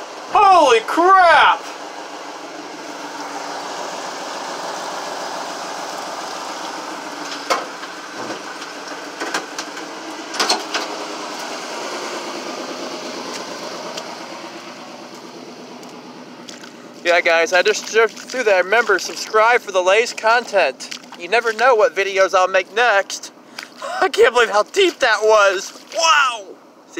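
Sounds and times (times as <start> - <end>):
vehicle engine running: 0.0 - 26.9.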